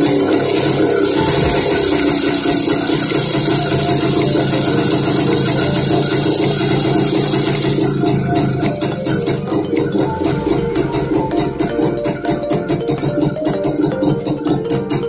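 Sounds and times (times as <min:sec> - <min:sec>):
two-stroke motorcycle engine running: 0:00.0 - 0:15.0.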